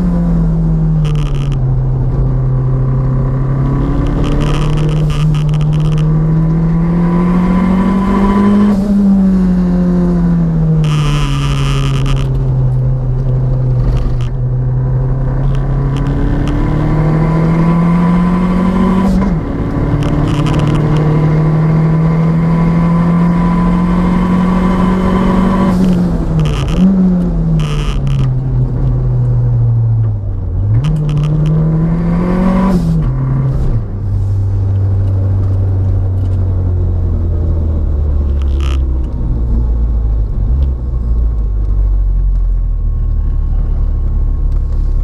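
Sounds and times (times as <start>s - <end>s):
turbocharged car engine under load: 0.0s - 45.0s.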